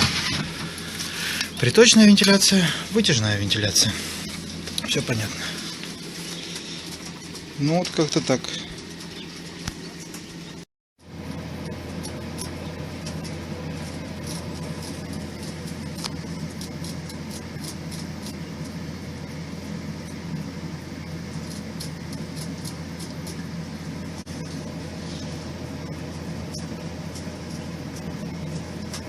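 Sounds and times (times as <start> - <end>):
steady low hum: 0.0 - 29.0
quail chicks peeping: 4.0 - 10.6, 12.0 - 29.0.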